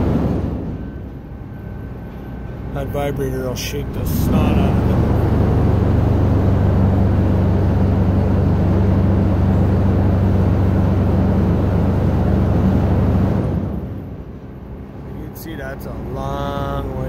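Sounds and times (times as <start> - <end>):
vibrator shaking trailer: 0.0 - 14.3.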